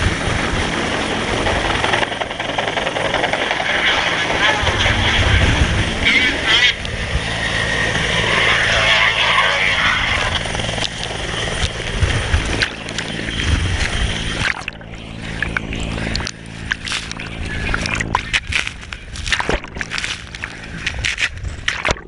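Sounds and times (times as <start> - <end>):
helicopter rotor and engine hum: 0.0 - 22.0
wind noise on microphone: 0.0 - 22.0.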